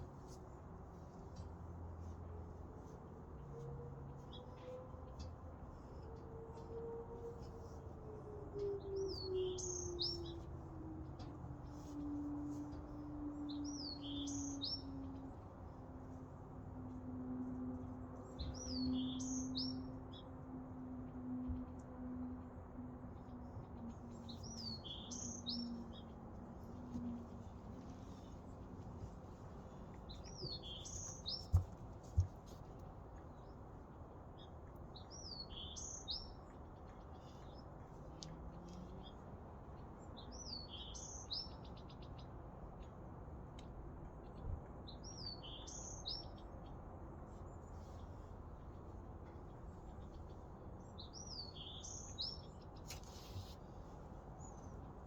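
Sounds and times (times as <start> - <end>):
songbird singing: 3.4 - 15.7, 17.5 - 20.4, 22.7 - 43.0, 43.6 - 55.0.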